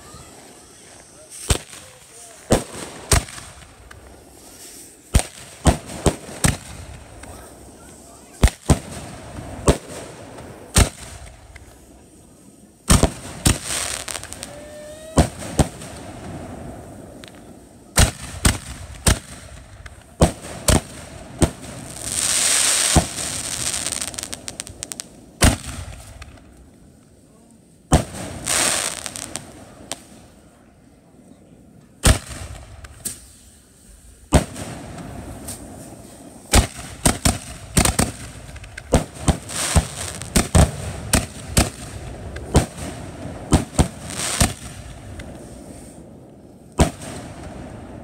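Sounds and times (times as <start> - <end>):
fireworks bangs: 0.0 - 26.8, 27.8 - 30.6, 32.0 - 48.0
hissing crackle of fireworks: 0.0 - 48.0.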